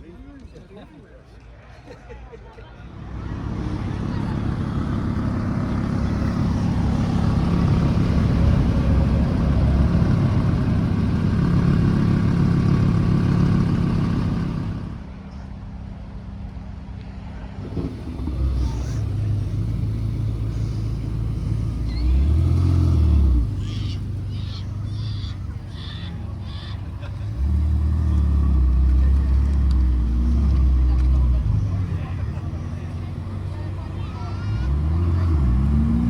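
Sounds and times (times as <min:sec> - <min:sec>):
car engine idling and revving: 0:02.9 - 0:15.2, 0:17.5 - 0:36.0
car engine running loudly: 0:03.1 - 0:15.0, 0:17.6 - 0:36.0.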